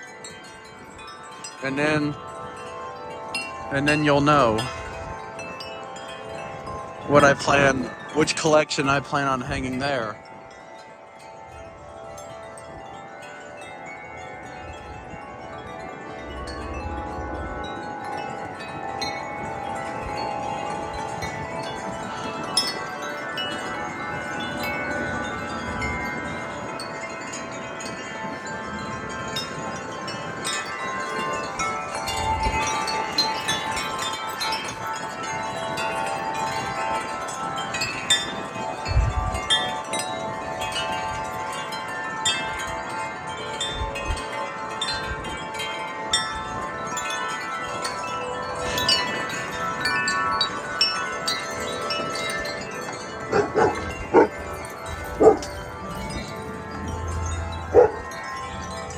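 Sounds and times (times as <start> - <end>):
metal wind chimes ringing: 0.0 - 58.9
wind gusts buffeting microphone: 0.3 - 58.9.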